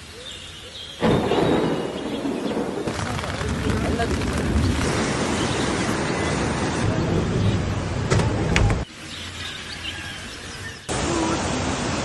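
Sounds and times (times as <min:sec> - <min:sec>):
loud outdoor rumble and hiss: 0:00.0 - 0:12.0.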